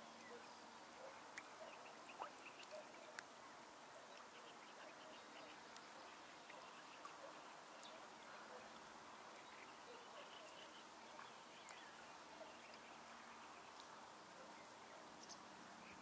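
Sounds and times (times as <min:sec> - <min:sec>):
faint distant bird chirps: 0:00.0 - 0:16.0
faint outdoor hiss: 0:00.0 - 0:16.0.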